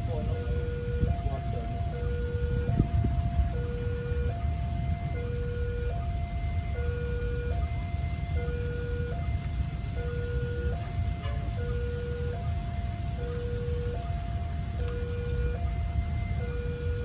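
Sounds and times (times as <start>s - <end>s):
level-crossing two-tone alarm: 0.0s - 17.0s.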